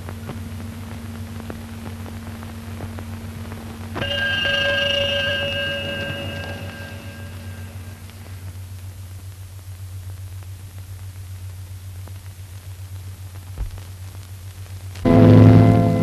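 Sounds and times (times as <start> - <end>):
old film soundtrack hiss and hum: 0.0 - 16.0.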